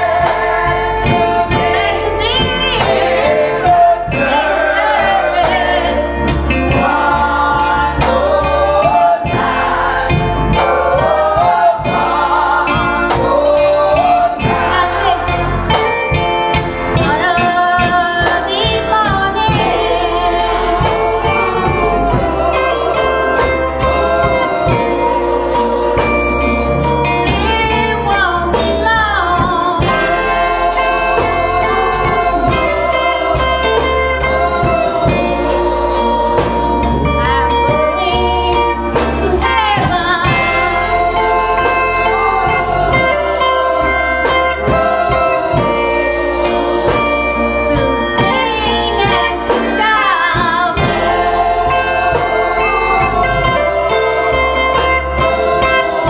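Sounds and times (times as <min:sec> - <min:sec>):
woman singing into microphone: 0:00.0 - 0:16.1, 0:16.9 - 0:56.0
choir singing gospel song: 0:00.0 - 0:56.0
instrumental accompaniment with beat: 0:00.0 - 0:56.0.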